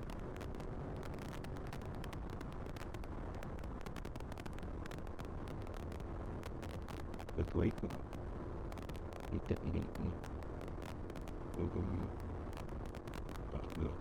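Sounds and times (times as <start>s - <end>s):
short crackles: 0.0s - 14.0s.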